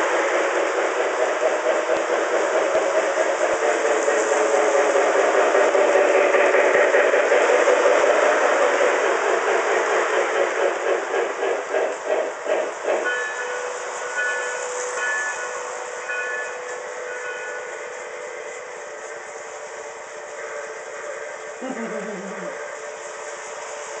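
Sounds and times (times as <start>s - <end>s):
model trains running on track: 0.0s - 24.0s
rhythmic pulsing: 0.0s - 24.0s.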